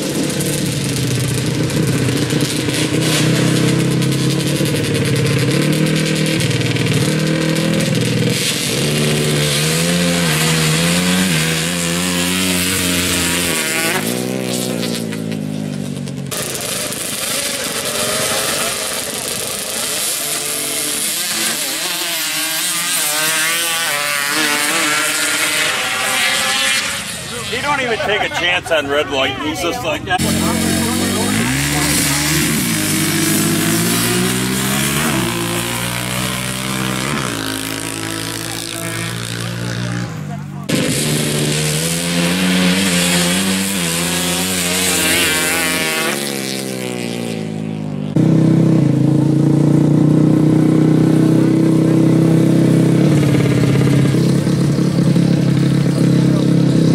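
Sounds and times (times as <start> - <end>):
atv engines revving: 0.0 - 56.9.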